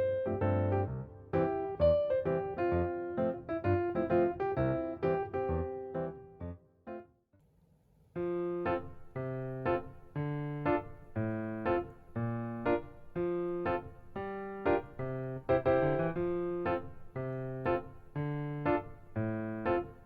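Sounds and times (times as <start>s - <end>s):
piano music: 0.0s - 7.1s, 8.2s - 20.0s.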